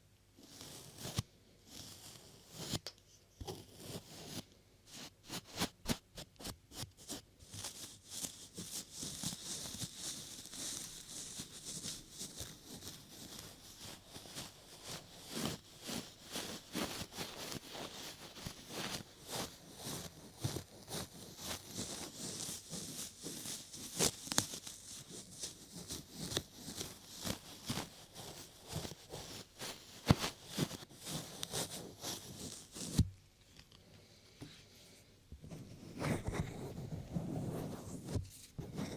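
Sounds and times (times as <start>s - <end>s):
scratchy brushing hiss: 0.4s - 2.8s, 3.4s - 33.1s
rubbing and tapping on microphone: 0.4s - 33.8s, 35.3s - 38.9s.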